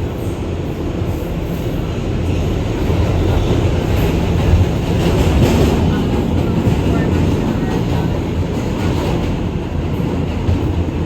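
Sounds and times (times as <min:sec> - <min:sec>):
subway train wheels rumbling on rails: 0:00.0 - 0:11.0.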